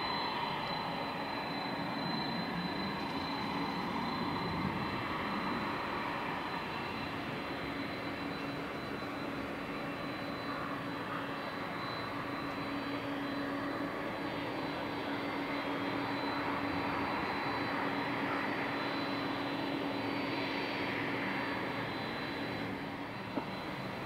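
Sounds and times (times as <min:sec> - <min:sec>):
distant jet engines: 0:00.0 - 0:24.0.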